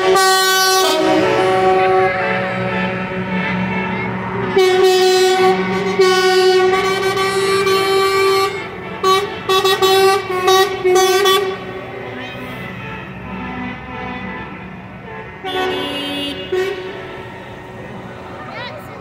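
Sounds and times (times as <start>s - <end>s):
lorry air horns blowing: 0.0s - 18.3s
lorries rumbling past: 0.0s - 19.0s.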